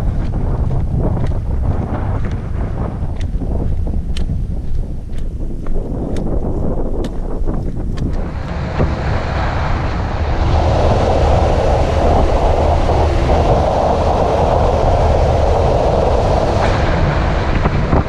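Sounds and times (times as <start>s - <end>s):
car engine and road rumble: 0.0s - 18.0s
wind rushing over microphone: 0.0s - 18.0s.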